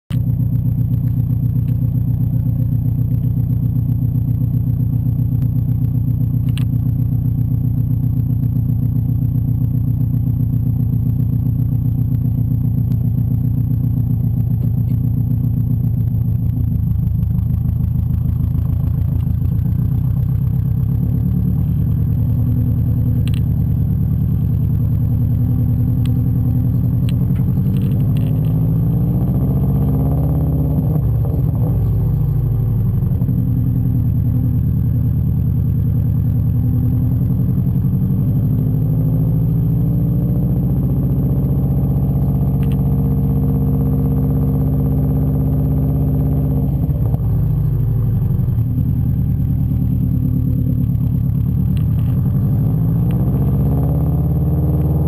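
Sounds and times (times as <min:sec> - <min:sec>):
car exhaust idling and revving: 0:00.1 - 0:55.0.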